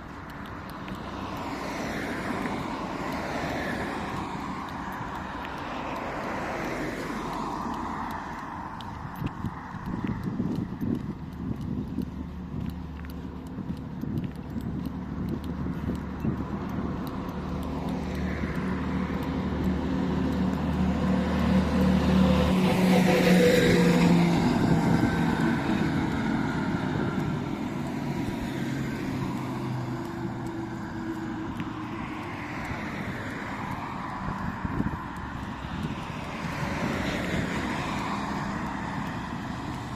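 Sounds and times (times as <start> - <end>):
motor vehicle passing: 0.0 - 39.9.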